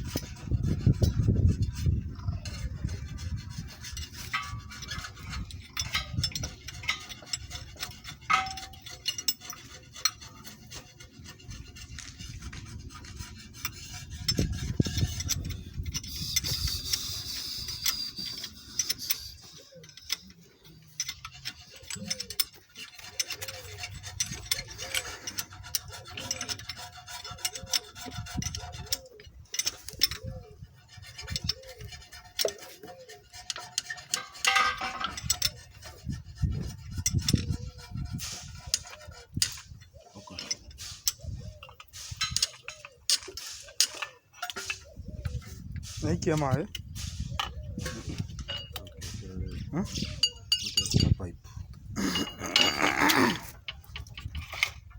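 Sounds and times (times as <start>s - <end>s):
repeated strokes: 0.0s - 50.6s
hand scraping on metal: 0.0s - 54.9s
tools clinking: 3.7s - 11.4s, 13.0s - 36.0s, 38.3s - 49.2s, 49.8s - 54.9s.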